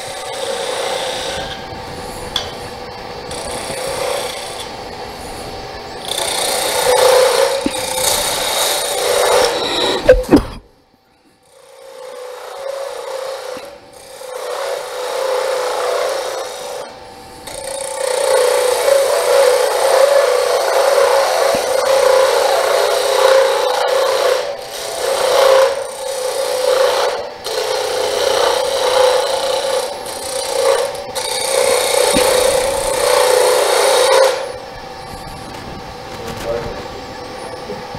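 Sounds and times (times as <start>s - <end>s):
turning tool scraping wood: 0.0s - 2.6s, 6.0s - 10.6s, 11.4s - 34.6s
wood lathe humming: 0.0s - 10.6s, 11.3s - 37.9s.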